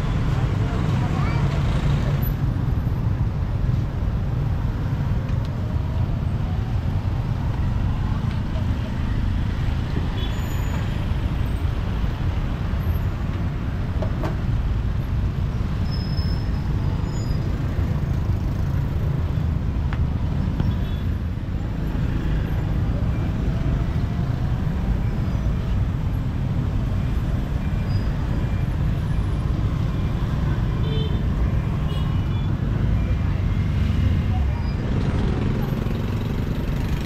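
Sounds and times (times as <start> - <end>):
street traffic rumble: 0.0 - 37.0.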